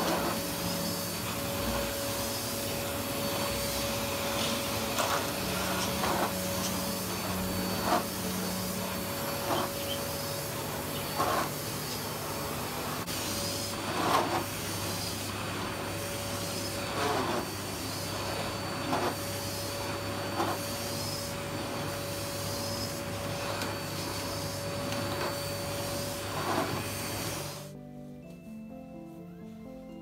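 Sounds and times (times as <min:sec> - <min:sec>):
floor cleaner motor humming: 0:00.0 - 0:28.4
floor cleaner swishing: 0:00.0 - 0:28.6.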